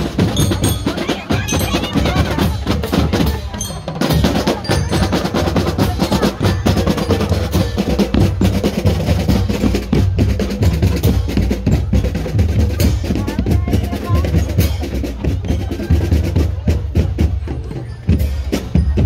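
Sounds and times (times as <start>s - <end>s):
bass drums beating: 0.0s - 19.0s
snare drums rattling: 0.0s - 19.0s.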